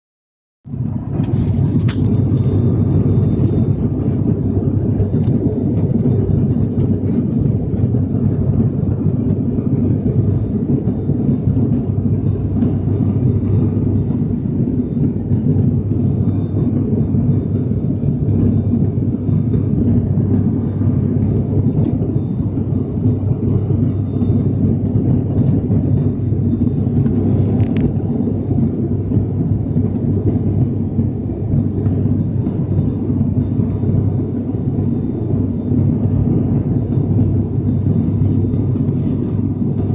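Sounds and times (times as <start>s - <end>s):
propeller aircraft cabin drone: 0.6s - 39.9s
faint high whine: 0.7s - 39.9s.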